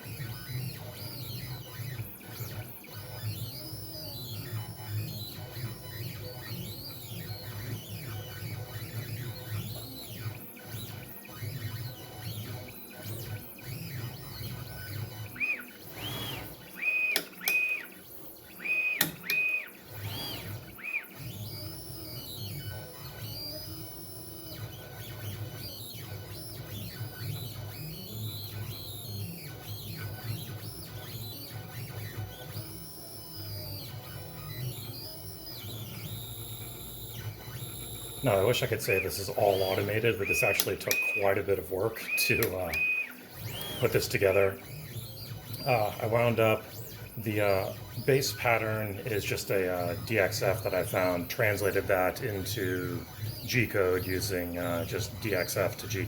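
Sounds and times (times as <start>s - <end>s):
stepper motors whining: 0.0s - 56.0s.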